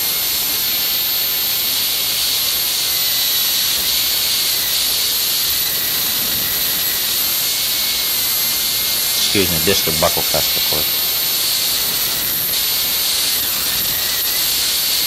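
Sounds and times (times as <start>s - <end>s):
dental drill whining: 0.0s - 11.0s, 11.7s - 15.0s.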